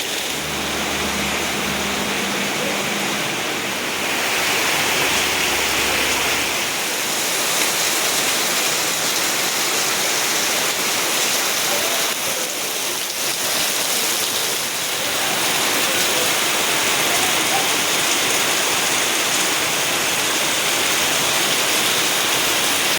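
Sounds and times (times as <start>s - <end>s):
steady rain hiss: 0.0s - 22.9s.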